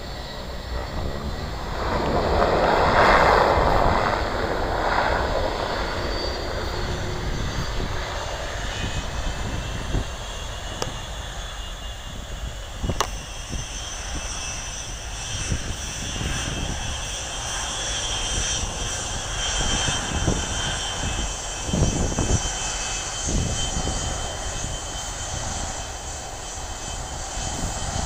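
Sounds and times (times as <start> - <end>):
turboprop engines droning: 0.0 - 28.0.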